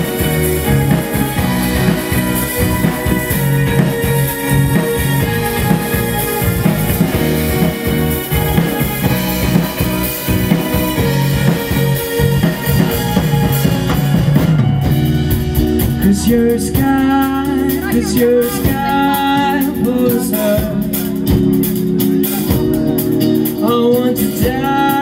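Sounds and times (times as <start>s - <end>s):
bass beat: 0.0s - 23.8s
keyboard tones: 0.0s - 23.8s
drum kit: 0.0s - 25.0s
sustained guitar tones: 0.0s - 25.0s.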